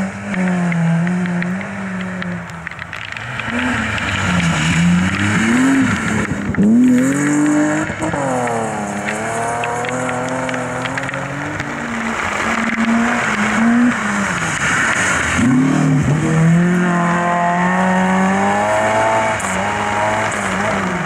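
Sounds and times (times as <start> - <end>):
rally car engines revving: 0.0 - 21.0.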